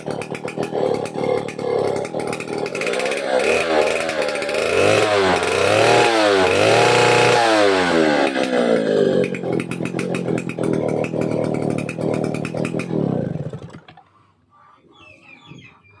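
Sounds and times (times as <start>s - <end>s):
chainsaw engine revving and idling: 0.0s - 13.8s.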